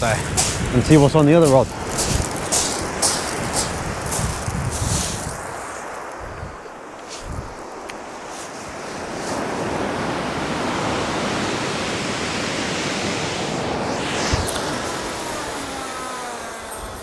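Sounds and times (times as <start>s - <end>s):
surf washing on shingle beach: 0.0s - 17.0s.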